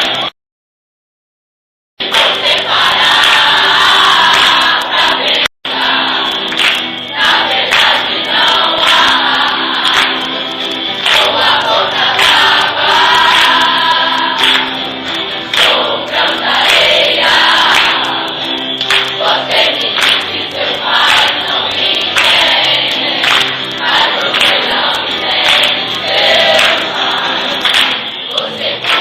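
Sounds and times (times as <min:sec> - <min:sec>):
choir singing in chorus: 0:00.0 - 0:00.3, 0:02.0 - 0:29.0.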